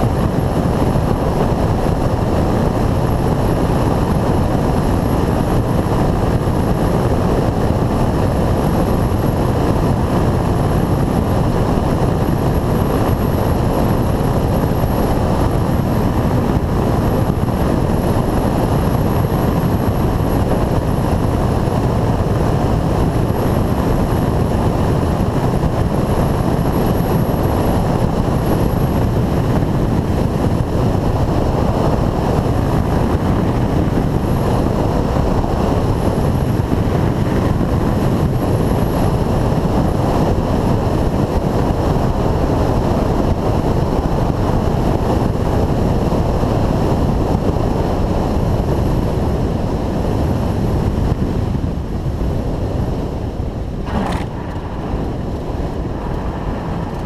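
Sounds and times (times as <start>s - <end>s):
aircraft engine and propeller: 0.0s - 57.0s
wind rushing over microphone: 0.0s - 57.0s.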